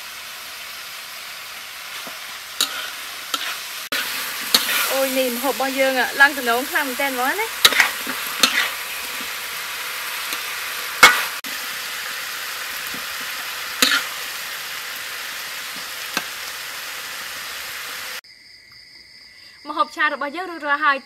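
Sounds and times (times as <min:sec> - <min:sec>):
food sizzling in a wok: 0:00.0 - 0:18.2.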